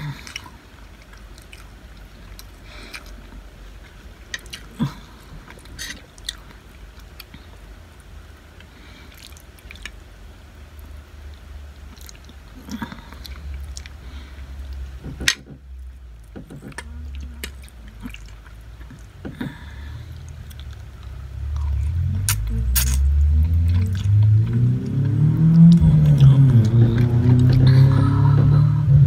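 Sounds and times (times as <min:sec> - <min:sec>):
person chewing food: 0:00.0 - 0:10.0, 0:10.7 - 0:27.9
low steady hum: 0:00.0 - 0:29.0.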